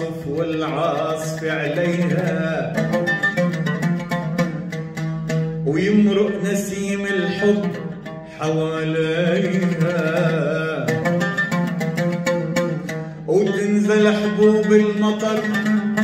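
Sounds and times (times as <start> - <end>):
man singing: 0.0 - 4.6, 5.6 - 16.0.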